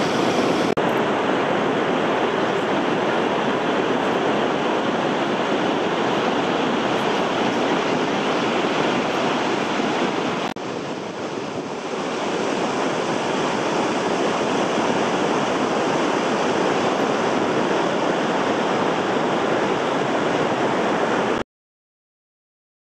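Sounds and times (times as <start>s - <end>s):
waterfall rushing: 0.0s - 21.4s.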